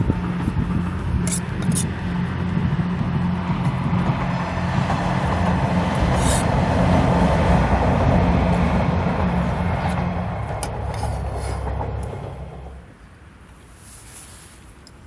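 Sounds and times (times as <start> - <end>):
vehicle rumbling in motion: 0.0 - 15.0.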